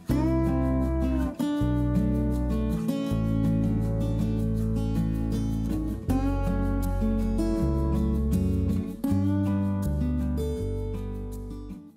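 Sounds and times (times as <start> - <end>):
guitar over bass line: 0.0 - 11.9.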